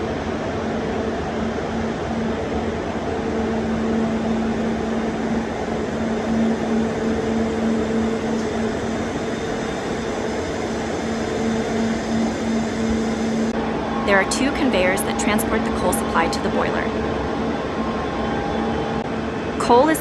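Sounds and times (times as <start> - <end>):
machinery hum: 0.0 - 20.0
machinery rushing noise: 1.4 - 19.0.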